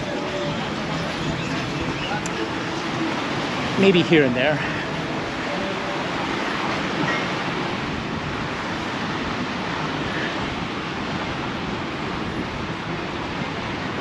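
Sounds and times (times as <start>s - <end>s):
surf washing: 0.0s - 14.0s
wind on microphone: 0.0s - 14.0s.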